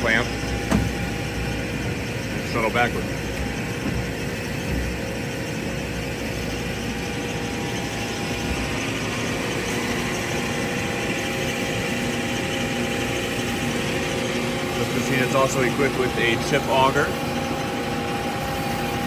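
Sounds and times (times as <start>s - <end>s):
band saw humming: 0.0s - 19.0s.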